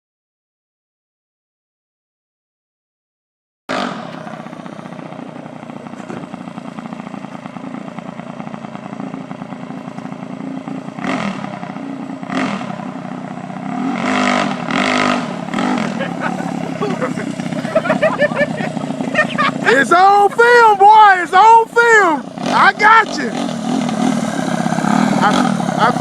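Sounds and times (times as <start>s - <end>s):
minibike engine revving: 3.7s - 26.0s.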